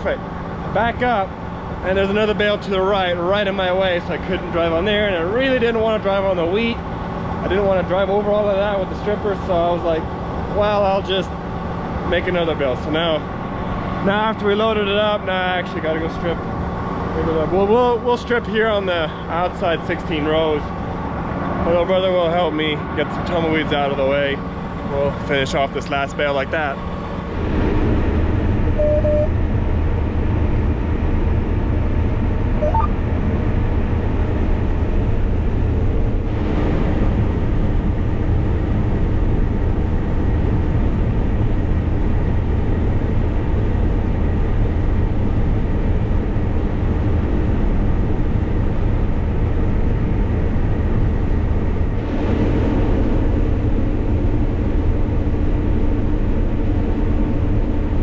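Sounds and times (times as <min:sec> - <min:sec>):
harvester machinery drone: 0:00.0 - 0:58.0.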